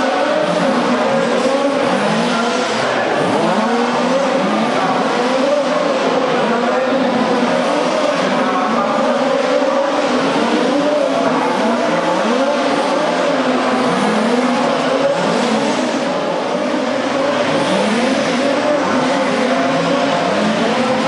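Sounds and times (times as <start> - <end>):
radio-controlled cars racing past: 0.0 - 21.0.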